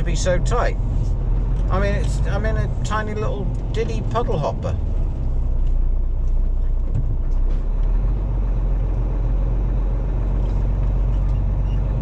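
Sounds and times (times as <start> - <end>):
lorry diesel engine droning: 0.0 - 12.0.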